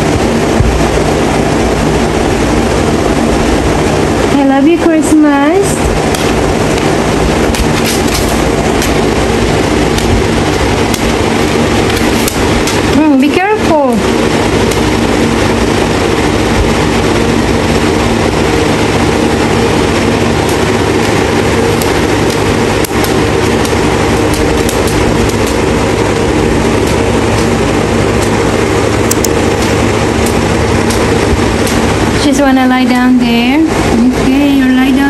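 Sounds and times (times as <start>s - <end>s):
electric fan rushing air: 0.0s - 35.0s
fan motor hum: 0.0s - 35.0s.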